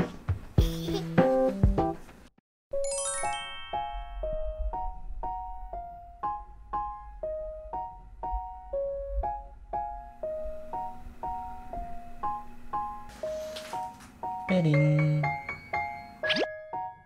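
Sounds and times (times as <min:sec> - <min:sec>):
light keyboard melody: 0:02.7 - 0:17.0.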